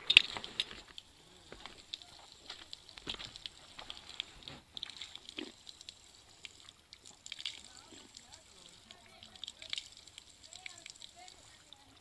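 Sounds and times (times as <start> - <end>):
low hiss: 0.0 - 12.0.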